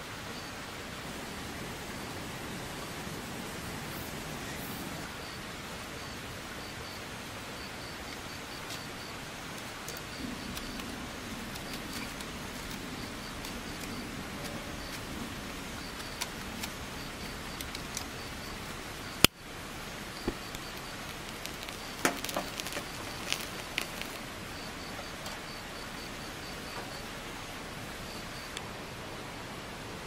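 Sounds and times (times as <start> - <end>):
mountain stream rushing: 0.0 - 30.0
insect chirping: 0.1 - 29.4.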